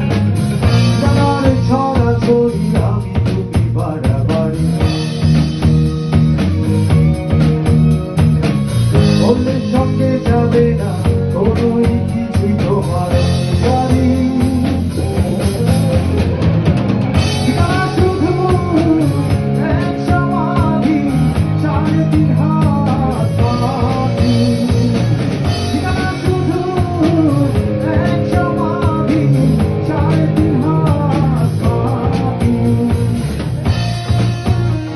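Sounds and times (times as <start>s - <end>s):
person singing: 0.0s - 6.6s, 9.0s - 16.4s, 17.2s - 34.6s
bass guitar: 0.0s - 34.9s
drum kit: 0.0s - 34.9s
electric guitars: 0.0s - 34.9s.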